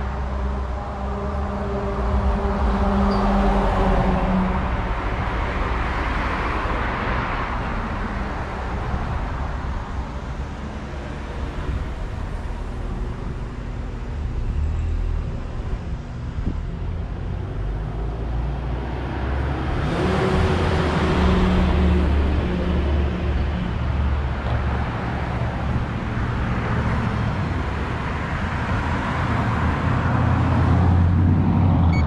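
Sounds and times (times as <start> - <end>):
low road rumble: 0.0 - 32.0.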